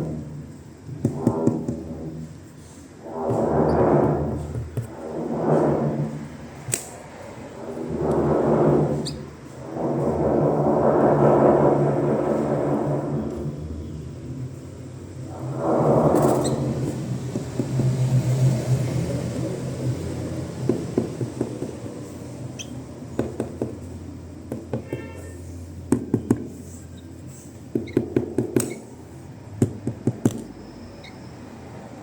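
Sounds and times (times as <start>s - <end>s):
low steady hum: 0.0s - 27.4s.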